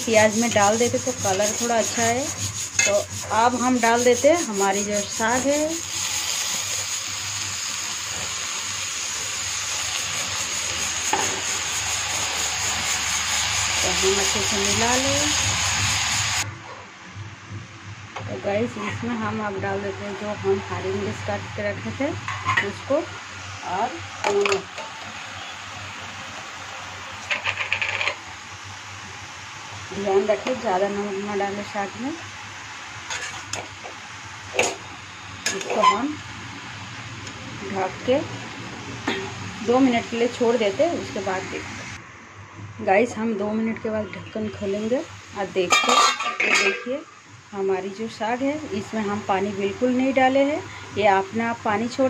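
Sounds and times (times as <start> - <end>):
greens sizzling in hot oil: 0.0 - 16.5, 20.0 - 42.0, 43.6 - 52.0.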